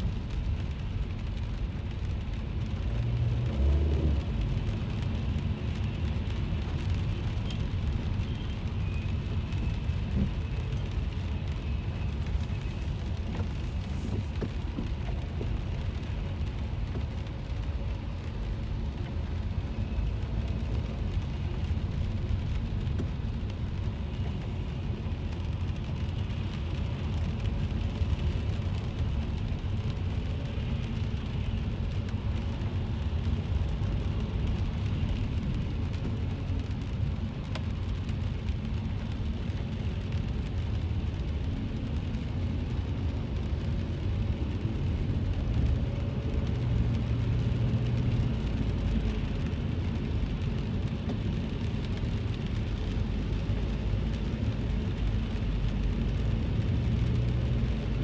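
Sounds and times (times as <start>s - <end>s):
car road and engine rumble: 0.0s - 58.0s
faint rain on car: 0.0s - 58.0s.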